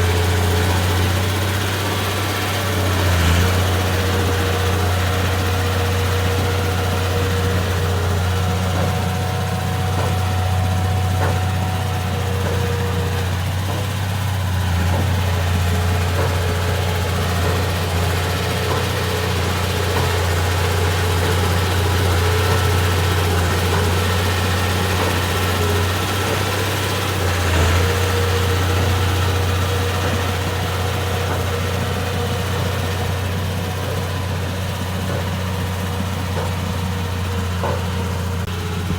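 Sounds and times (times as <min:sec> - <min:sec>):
bulldozer diesel engine idling: 0:00.0 - 0:38.9.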